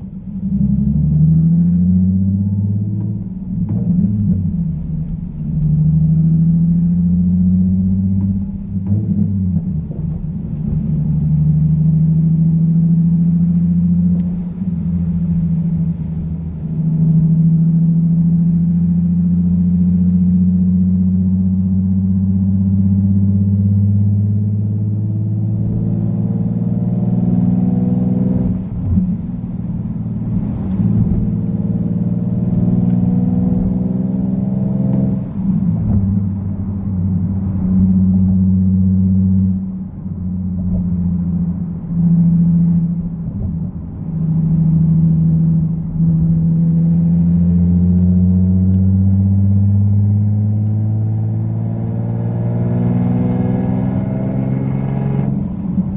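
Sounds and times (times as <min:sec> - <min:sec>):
car engine droning: 0:00.0 - 0:55.9.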